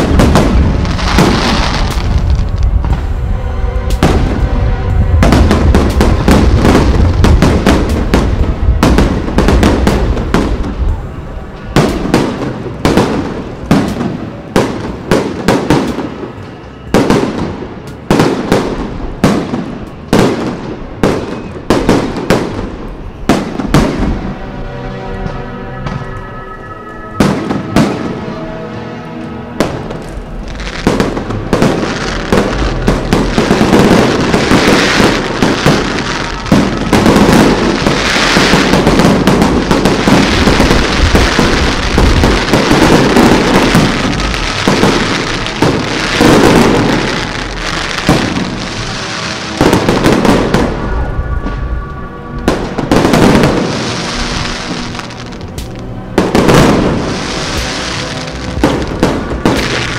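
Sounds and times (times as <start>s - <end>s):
fireworks bangs and crackling: 0.0s - 24.6s, 27.2s - 28.6s, 29.5s - 59.9s.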